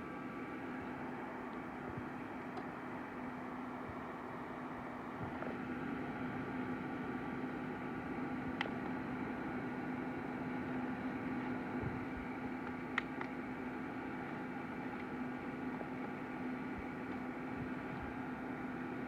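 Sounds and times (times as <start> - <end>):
fan heater whirring: 0.0 - 19.0.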